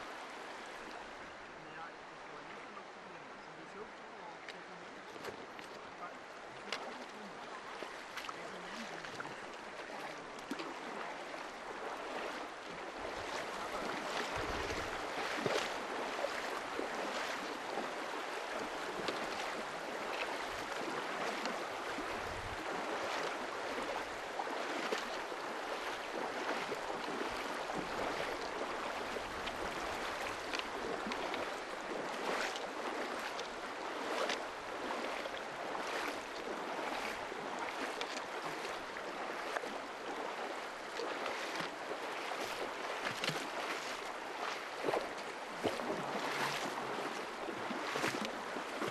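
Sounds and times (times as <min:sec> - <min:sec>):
small water splashes: 0:00.0 - 0:48.9.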